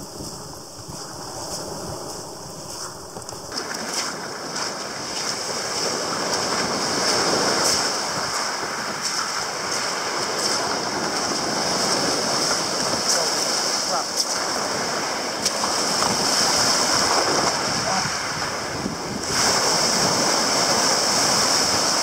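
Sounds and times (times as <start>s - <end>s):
waves washing on shingle beach: 0.0s - 22.0s
wind buffeting microphone: 0.0s - 22.0s.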